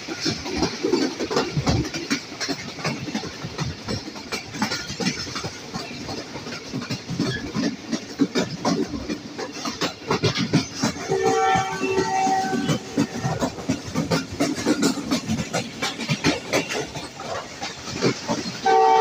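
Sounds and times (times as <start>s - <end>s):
sharp clicks and knocks: 0.0s - 18.7s
coach rattling: 0.0s - 19.0s
train wheels clattering: 0.0s - 19.0s.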